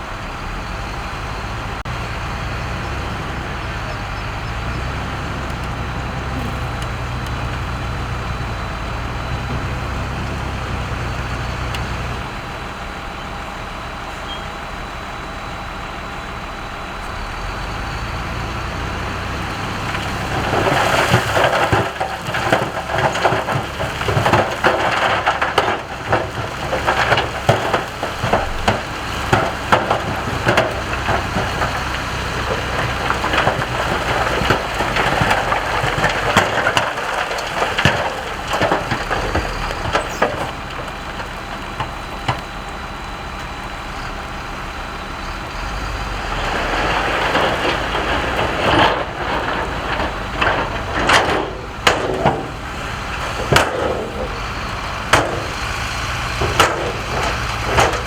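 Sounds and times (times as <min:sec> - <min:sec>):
diesel engine running: 0:00.0 - 0:58.0
rock and gravel clattering: 0:00.0 - 0:58.0.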